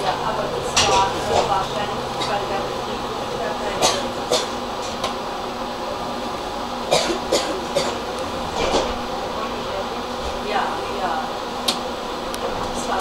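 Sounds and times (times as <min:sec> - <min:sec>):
tram equipment humming: 0:00.0 - 0:13.0.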